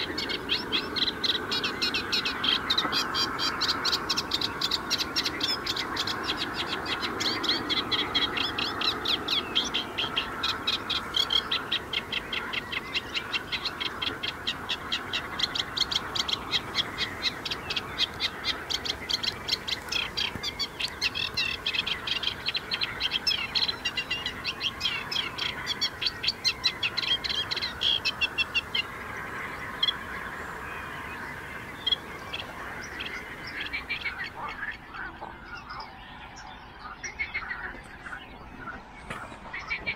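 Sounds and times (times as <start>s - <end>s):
distant background noise: 0.0s - 39.9s.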